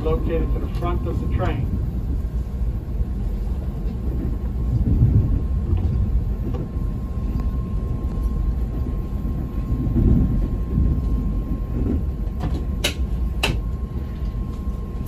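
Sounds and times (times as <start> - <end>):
faint steady whine: 0.0 - 15.0
train wheels rumbling on track: 0.0 - 15.0.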